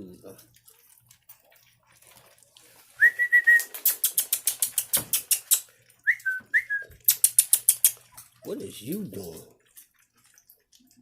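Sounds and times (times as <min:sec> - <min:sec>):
puppies lapping wet food: 0:00.0 - 0:11.0.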